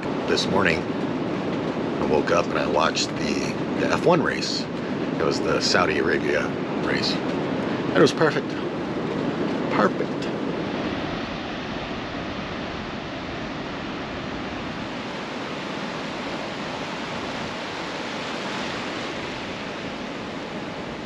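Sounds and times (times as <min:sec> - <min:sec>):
ocean surf on a beach: 0:00.0 - 0:21.0.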